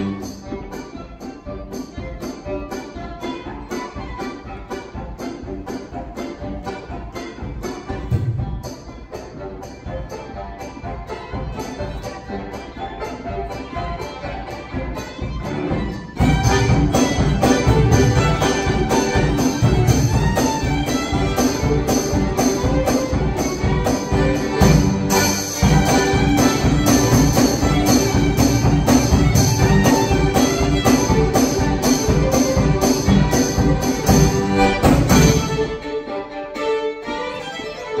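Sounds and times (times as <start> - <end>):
steady percussion beat: 0.0 - 36.2
fast bluegrass fiddle tune: 0.0 - 38.0.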